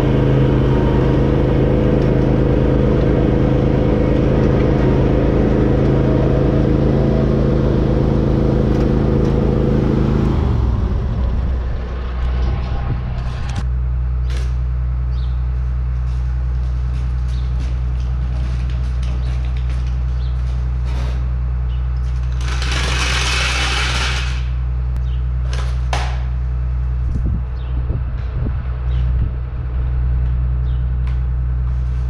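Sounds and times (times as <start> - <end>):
tractor engine idling: 0.0 - 27.1.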